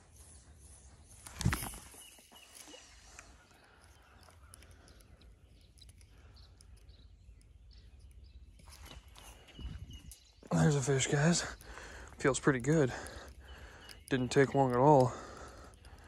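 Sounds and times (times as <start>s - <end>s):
faint bird calls: 1.6s - 16.0s.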